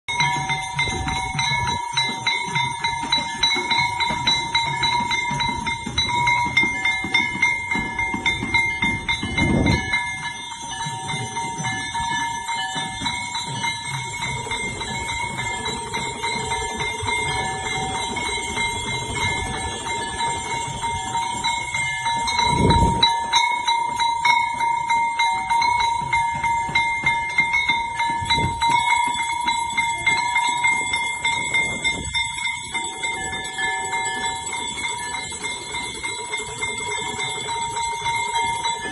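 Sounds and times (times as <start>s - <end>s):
metal bell ringing rapidly: 0.1s - 38.9s.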